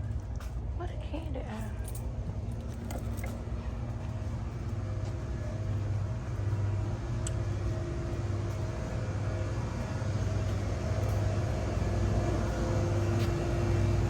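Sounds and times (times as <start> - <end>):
shop background hum: 0.0 - 14.0.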